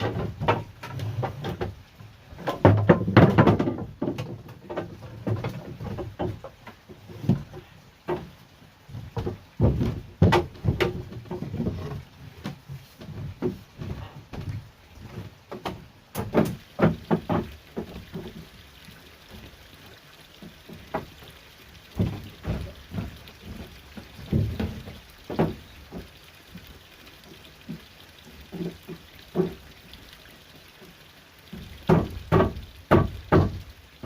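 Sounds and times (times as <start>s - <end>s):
wood and bamboo knocking: 0.0s - 18.6s, 20.4s - 26.7s, 28.4s - 29.7s, 31.5s - 33.7s.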